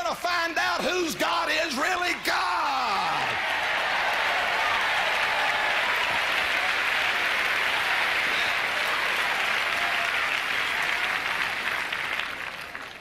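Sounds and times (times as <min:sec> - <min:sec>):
arena audience applauding: 0:00.8 - 0:13.0.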